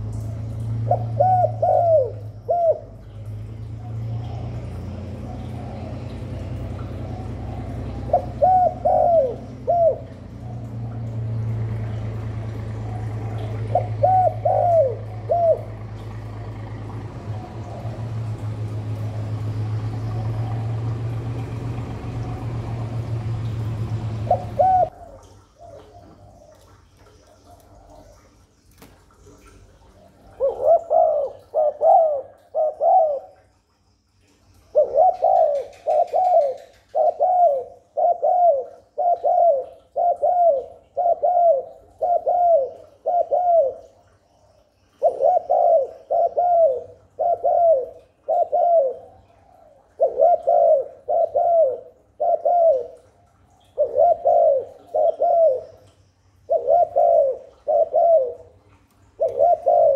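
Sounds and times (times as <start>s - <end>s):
dove cooing: 0.0s - 28.4s, 29.4s - 33.6s, 34.7s - 44.2s, 44.9s - 59.9s.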